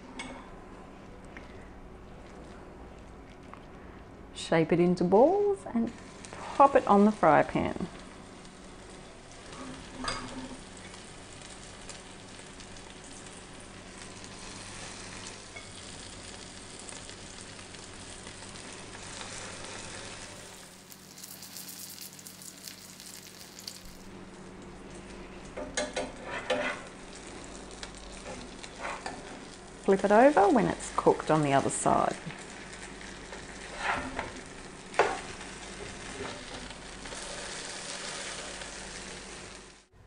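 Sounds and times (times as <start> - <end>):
patties sizzling in a pan: 5.9 - 24.2, 25.8 - 39.9.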